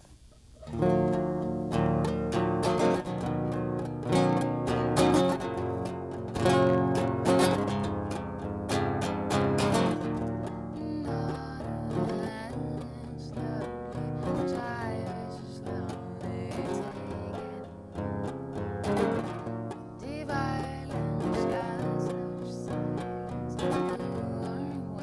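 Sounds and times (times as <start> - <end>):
acoustic guitar chords: 0.0 - 25.0.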